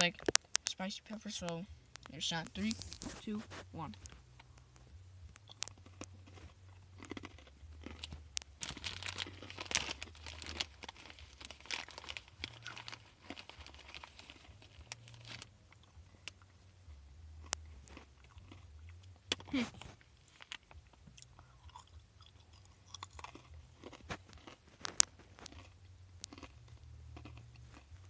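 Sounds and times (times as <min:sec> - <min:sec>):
snack bag crinkling: 0:00.0 - 0:04.6, 0:05.3 - 0:16.4, 0:17.4 - 0:28.0
pretzels crunching when chewed: 0:00.0 - 0:16.7, 0:17.3 - 0:28.0.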